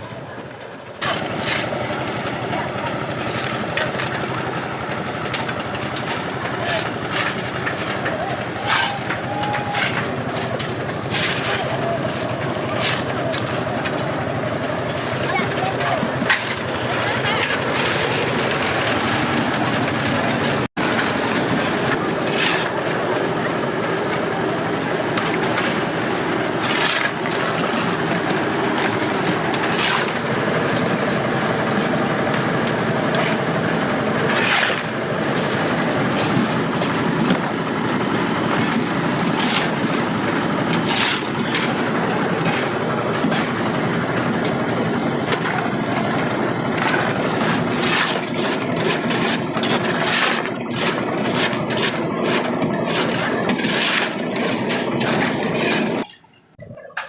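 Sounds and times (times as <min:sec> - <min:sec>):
engine running: 0:00.0 - 0:56.1.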